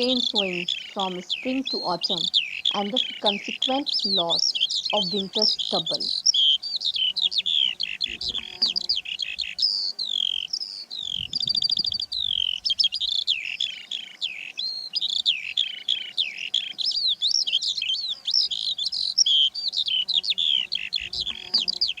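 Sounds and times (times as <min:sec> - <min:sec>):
skylark singing: 0:00.0 - 0:22.0.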